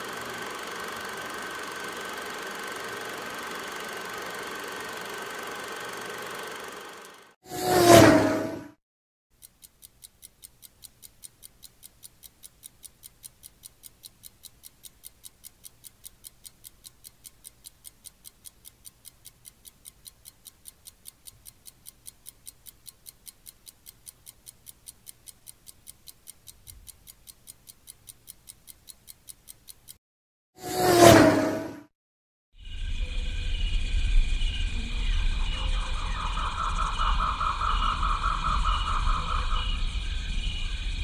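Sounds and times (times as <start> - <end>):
sharp even ticking: 0.0 - 8.4, 9.3 - 30.0, 35.9 - 40.9.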